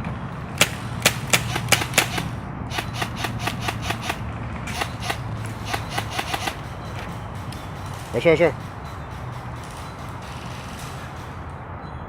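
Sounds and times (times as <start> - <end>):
airsoft guns firing: 0.5 - 11.4.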